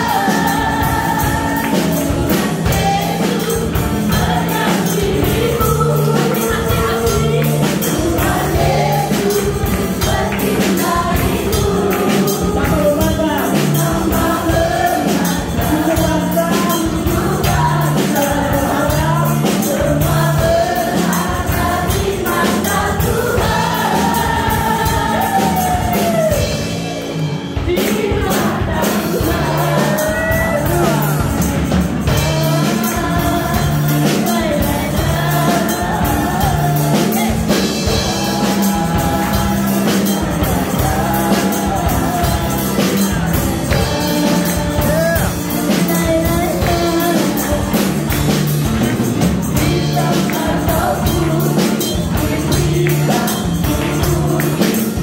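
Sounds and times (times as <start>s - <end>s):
tambourine: 0.0s - 26.9s, 27.6s - 55.0s
lead singers on microphones: 0.0s - 27.0s, 27.6s - 55.0s
congregation singing: 0.0s - 55.0s
electric bass guitar: 0.0s - 55.0s.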